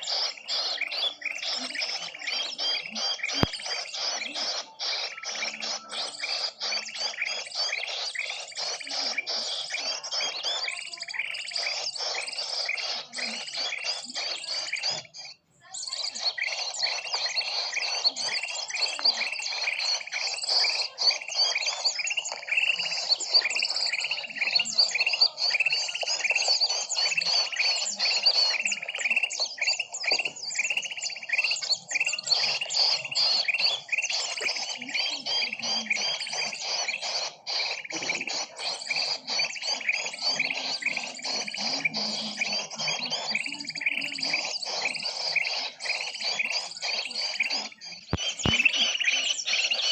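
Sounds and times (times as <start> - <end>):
small birds chirping rapidly: 0.0 - 49.9.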